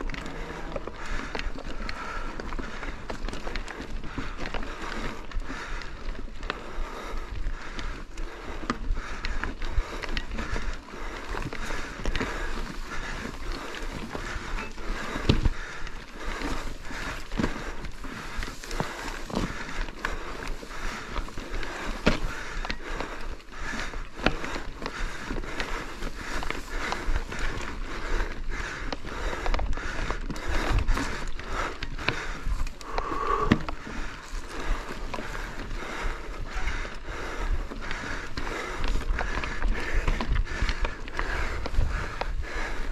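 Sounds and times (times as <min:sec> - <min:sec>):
bike knocking and rattling: 0:00.0 - 0:42.9
bike tyres rolling on rocks: 0:00.0 - 0:42.9.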